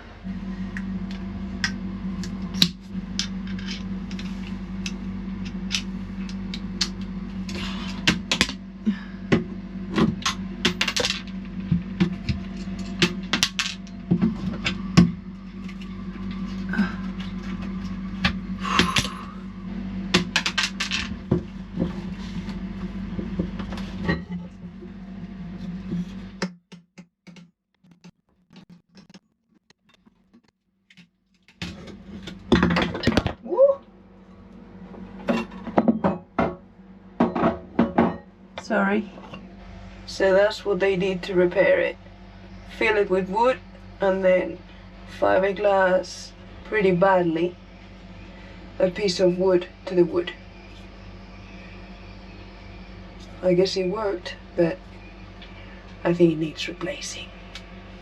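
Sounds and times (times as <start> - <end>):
steady low hum: 0.0 - 26.4, 28.0 - 58.0.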